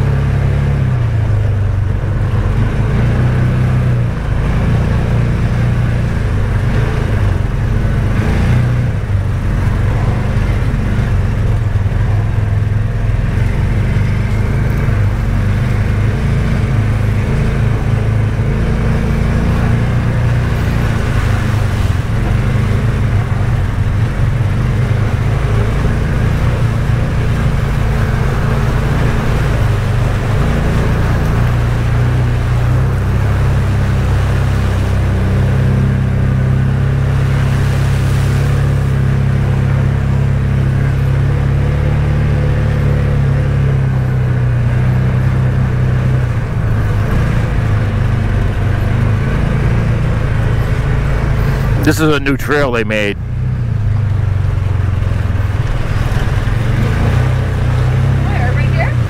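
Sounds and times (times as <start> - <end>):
engine droning while driving: 0.0 - 59.0.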